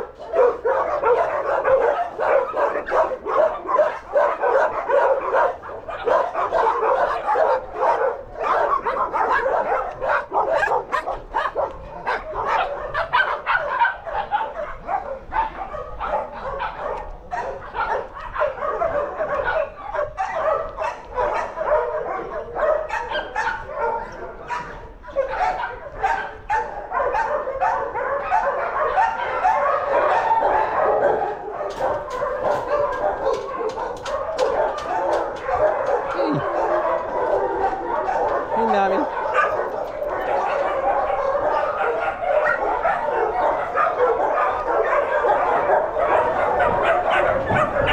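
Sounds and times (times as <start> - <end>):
dogs barking and yelping: 0.0 - 47.9
dogs whimpering: 0.1 - 47.9.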